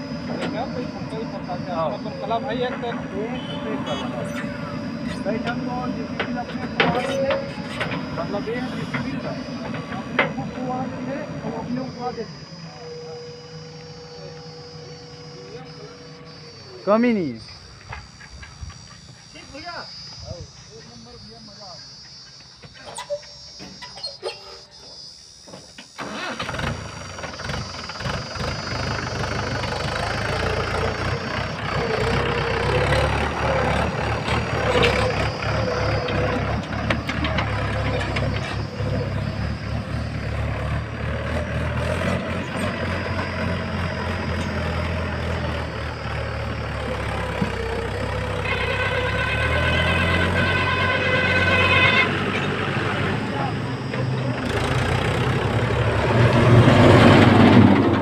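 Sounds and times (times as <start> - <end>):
tractor diesel engine: 0.0 - 58.0.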